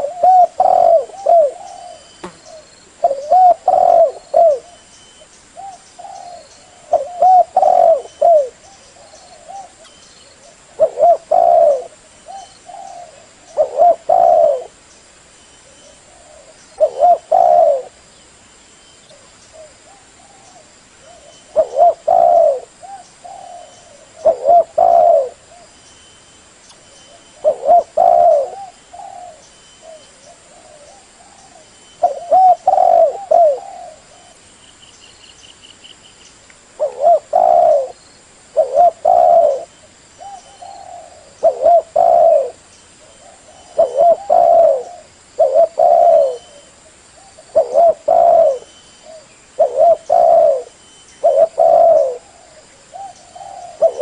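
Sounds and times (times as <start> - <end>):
dove cooing: 0.0 - 4.9, 5.6 - 14.8, 15.6 - 18.0, 19.1 - 25.8, 27.1 - 34.4, 36.8 - 54.0.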